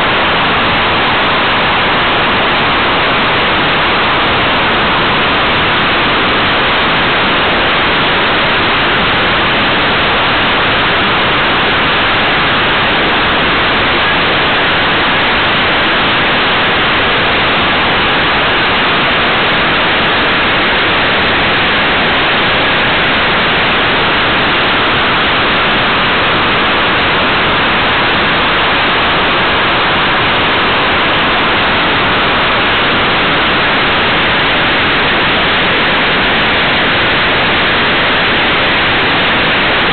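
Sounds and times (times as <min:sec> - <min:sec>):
rushing air and microphone hiss: 0:00.0 - 0:39.9.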